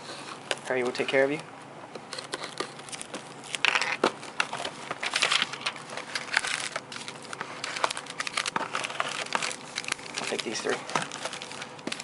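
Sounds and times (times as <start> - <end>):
wrapper and cardboard crinkling: 2.1 - 12.0.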